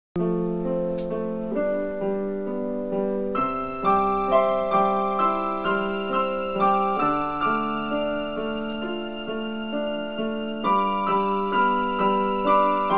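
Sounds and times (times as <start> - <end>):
gentle piano music: 0.2 - 12.9.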